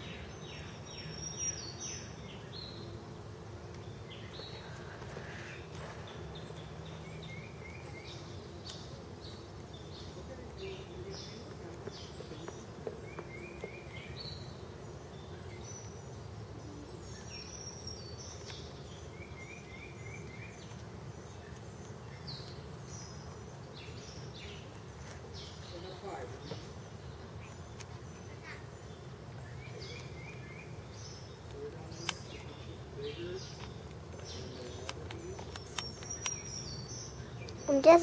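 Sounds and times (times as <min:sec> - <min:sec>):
songbirds calling: 0:00.0 - 0:38.0
steady low outdoor hum: 0:00.0 - 0:38.0.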